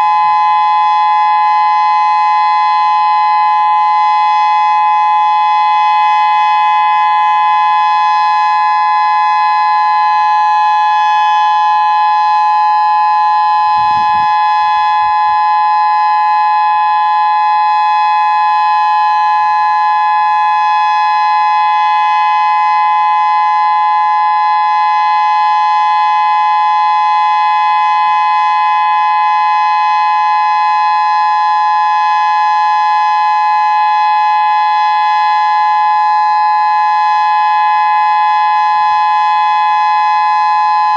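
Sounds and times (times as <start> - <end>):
electronic warning siren: 0.0 - 40.9.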